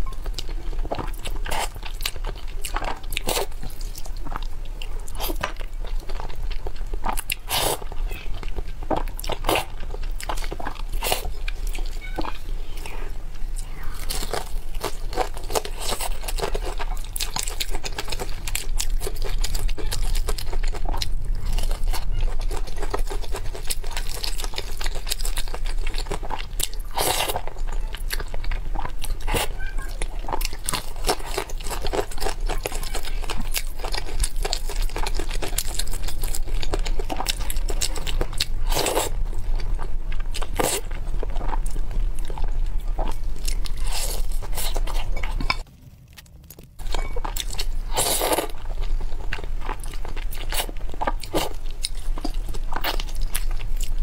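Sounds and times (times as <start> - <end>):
chewing: 0.0 - 54.0
crunching fried chicken: 0.0 - 54.0.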